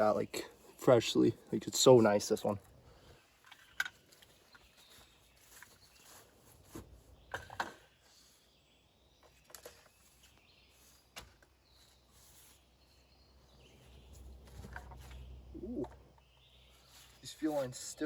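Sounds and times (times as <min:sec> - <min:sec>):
faint bird chirps: 0:02.9 - 0:18.0.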